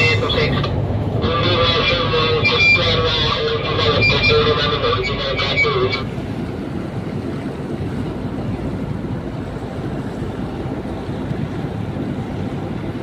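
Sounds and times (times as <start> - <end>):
boat engine rumble: 0.0 - 13.0
wind on microphone: 0.0 - 13.0.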